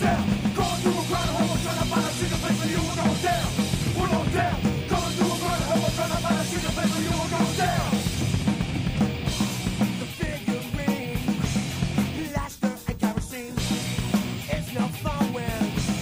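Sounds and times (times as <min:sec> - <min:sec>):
drum kit: 0:00.0 - 0:16.0
nu metal band playing: 0:00.0 - 0:16.0.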